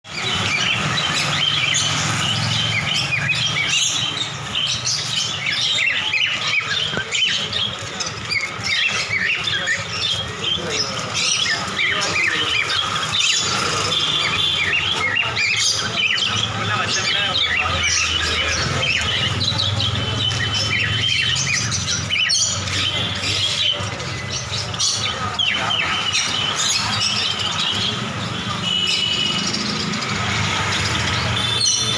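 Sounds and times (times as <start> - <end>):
small birds chirping and squawking: 0.0 - 31.9.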